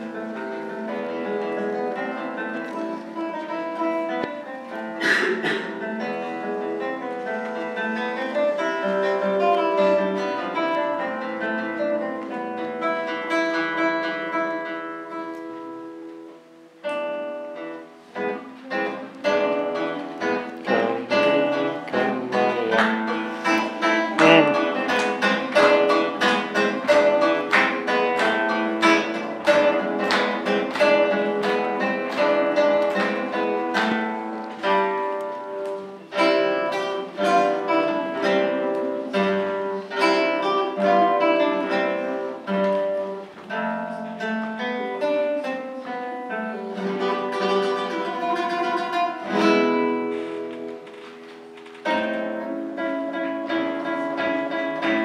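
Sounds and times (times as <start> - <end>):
classical guitar playing: 0.0 - 55.0.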